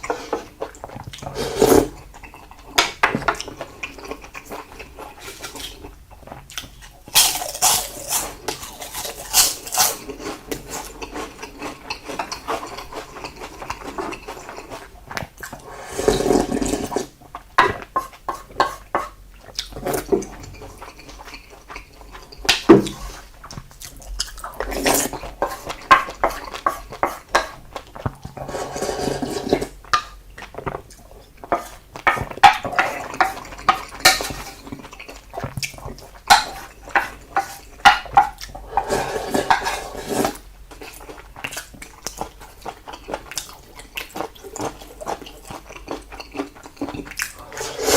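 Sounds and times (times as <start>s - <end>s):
chewing and mouth sounds: 2.0s - 15.6s, 19.3s - 28.4s, 29.6s - 38.6s, 40.7s - 47.6s.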